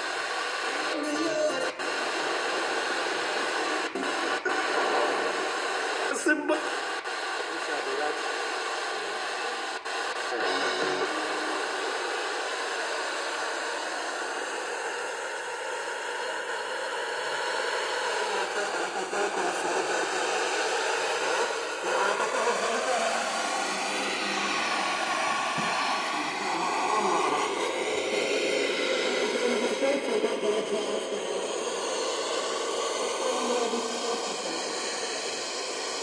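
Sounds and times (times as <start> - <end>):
radio static hiss: 0.0 - 36.0.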